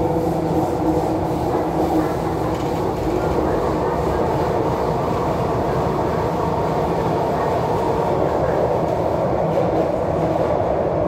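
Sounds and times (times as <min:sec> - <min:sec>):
metro wheels rumbling: 0:00.0 - 0:11.0.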